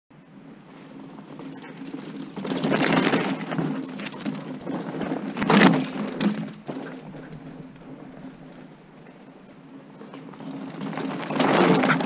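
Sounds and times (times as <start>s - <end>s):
bikes rattling and clinking: 0.2s - 12.0s
bike tyres crunching over grit: 0.3s - 12.0s.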